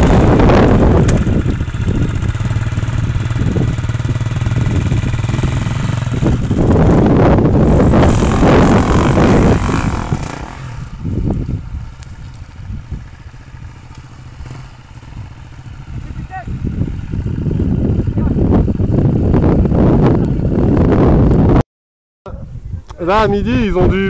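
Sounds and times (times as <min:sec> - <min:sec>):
motorcycle engine revving hard: 0:00.0 - 0:11.9, 0:12.6 - 0:21.2.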